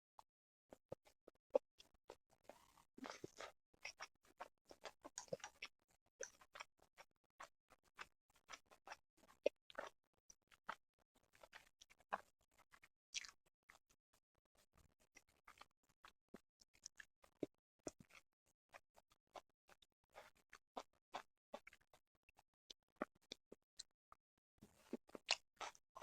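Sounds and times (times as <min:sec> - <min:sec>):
chewing and mouth clicks: 0:01.0 - 0:13.9, 0:14.6 - 0:21.9, 0:24.7 - 0:26.0.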